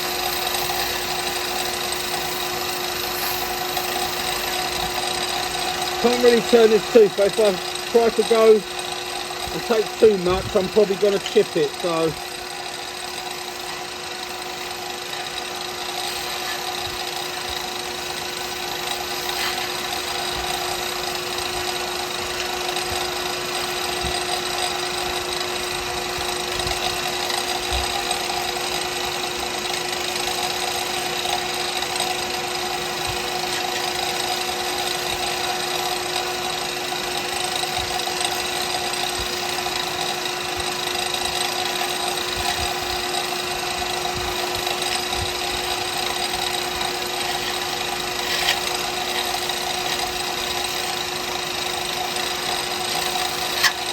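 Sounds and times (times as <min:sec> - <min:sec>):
wood lathe humming: 0:00.0 - 0:53.9.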